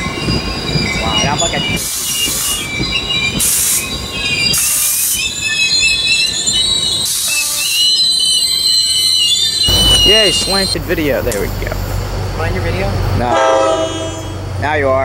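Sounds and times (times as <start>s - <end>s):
train wheels squealing on rails: 0.0s - 10.8s, 12.4s - 15.0s.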